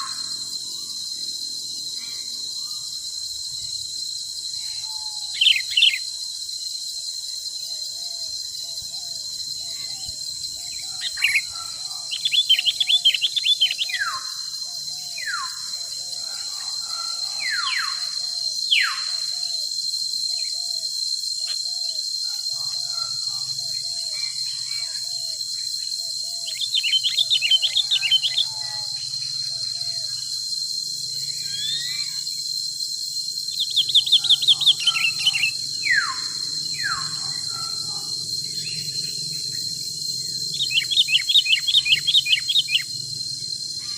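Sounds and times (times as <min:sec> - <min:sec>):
insect drone: 0:00.0 - 0:43.9.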